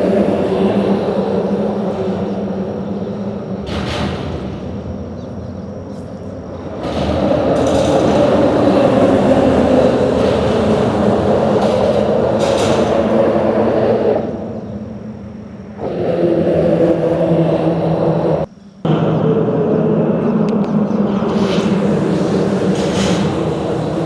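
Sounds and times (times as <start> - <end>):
vehicles driving across a bridge: 0.0 - 24.0.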